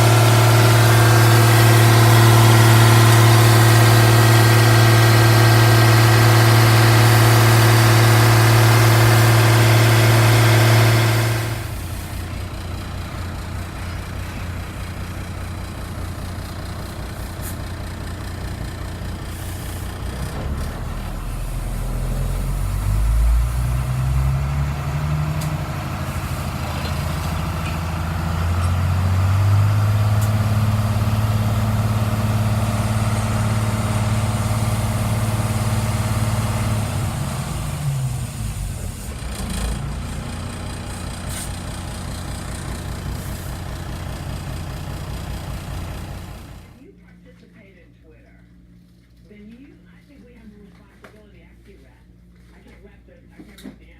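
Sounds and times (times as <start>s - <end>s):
diesel engine running: 0.0s - 46.8s.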